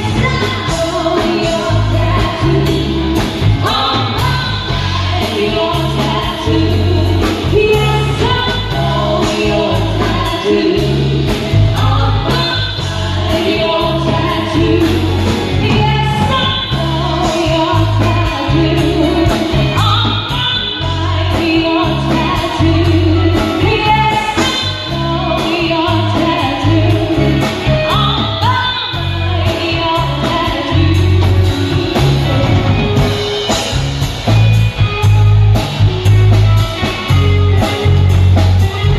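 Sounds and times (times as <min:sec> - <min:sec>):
person singing: 0:00.0 - 0:33.7
live band playing: 0:00.0 - 0:38.9
strong bass line: 0:00.0 - 0:38.9.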